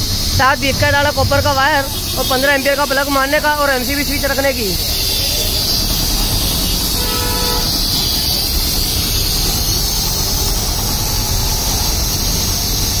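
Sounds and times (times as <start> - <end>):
air compressor running: 0.0 - 13.0.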